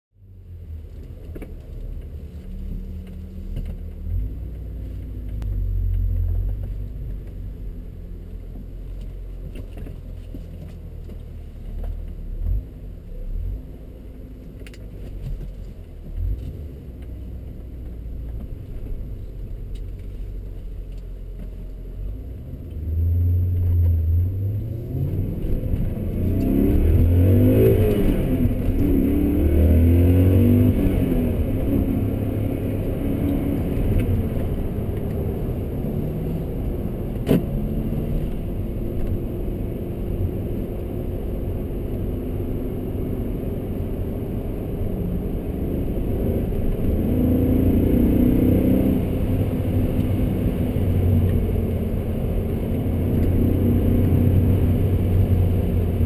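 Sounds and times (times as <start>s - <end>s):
car engine rumbling and accelerating: 0.1s - 56.0s.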